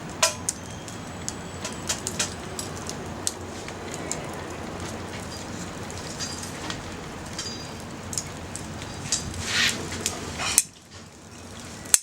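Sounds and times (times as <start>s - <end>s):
fire hiss: 0.0s - 12.0s
wood fire crackling and popping: 0.0s - 12.0s.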